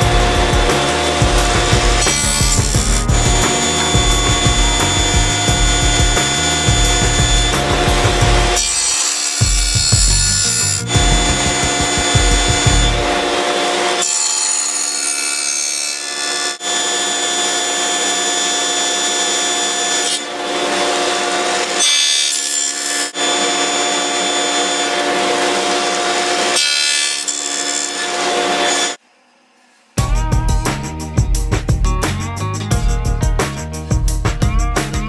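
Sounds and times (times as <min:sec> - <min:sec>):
saw cutting wood: 0:00.0 - 0:29.0
table saw whining: 0:00.0 - 0:29.9.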